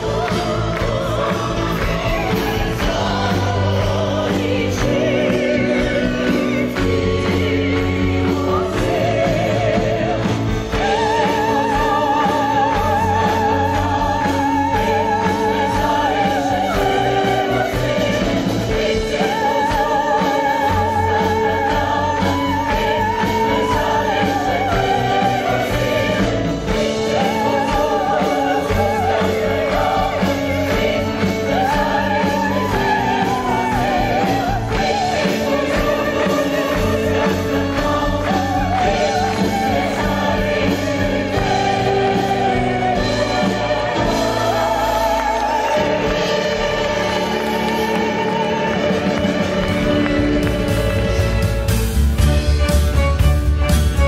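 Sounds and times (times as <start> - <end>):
choir singing: 0.0 - 52.7
live instrumental accompaniment: 0.0 - 54.0.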